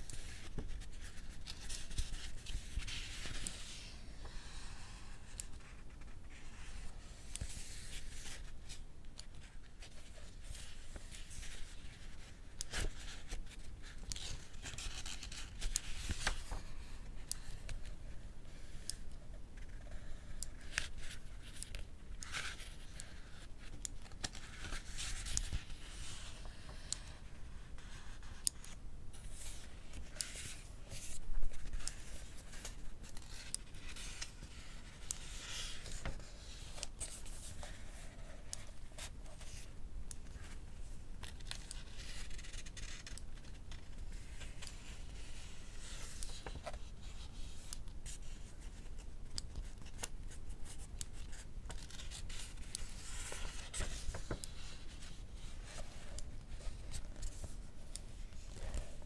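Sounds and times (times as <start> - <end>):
book pages turning: 0.0 - 59.0.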